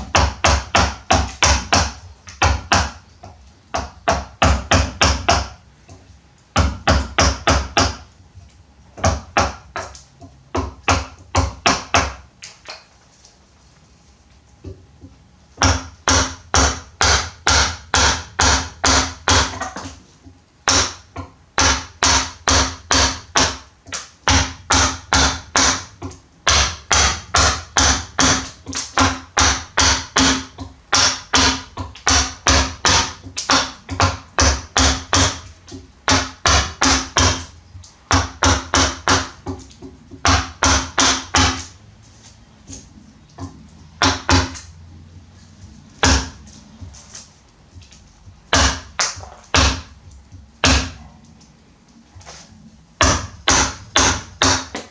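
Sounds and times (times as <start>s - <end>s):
rapid tapping on wood: 0.0s - 8.1s, 9.0s - 12.3s, 14.6s - 41.8s, 42.7s - 44.7s, 46.0s - 51.1s, 53.0s - 54.9s.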